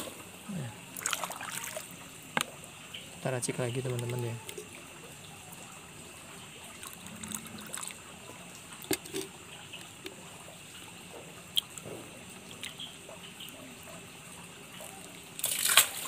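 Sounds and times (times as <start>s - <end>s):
liquid trickling into water: 0.5s - 16.0s.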